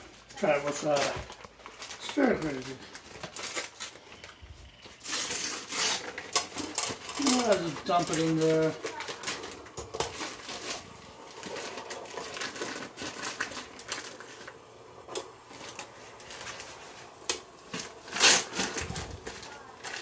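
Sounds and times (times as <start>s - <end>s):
paper bag crinkling: 0.0s - 20.0s.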